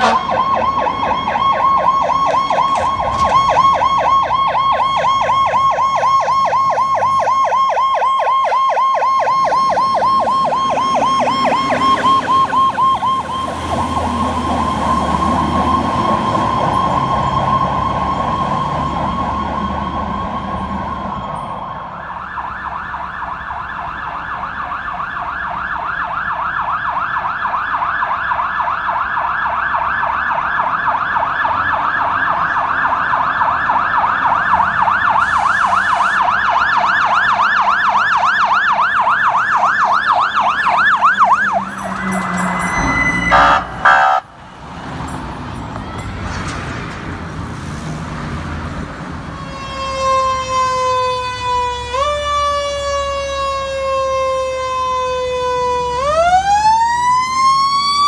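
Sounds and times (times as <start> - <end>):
fire truck siren yelping: 0.0 - 47.8, 48.6 - 58.0.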